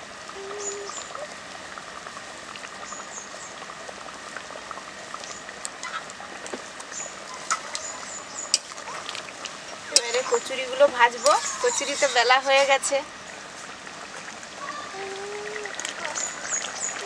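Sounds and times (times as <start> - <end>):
curry bubbling and popping: 0.0 - 17.0.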